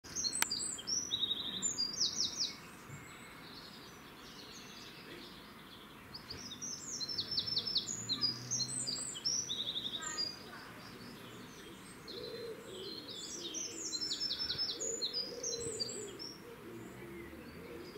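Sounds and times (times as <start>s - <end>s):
wren singing trills: 0.0s - 17.9s.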